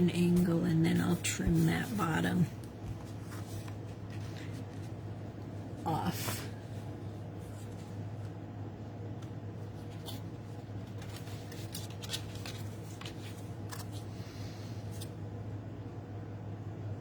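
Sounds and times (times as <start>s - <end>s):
paper handling: 0.0s - 8.4s, 9.1s - 15.2s.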